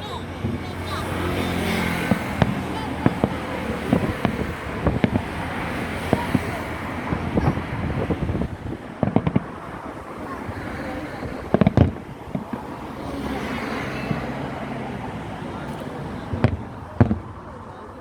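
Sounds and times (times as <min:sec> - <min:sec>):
crowd noise: 0:00.0 - 0:18.0
fireworks bangs: 0:00.0 - 0:18.0
wind: 0:00.0 - 0:18.0.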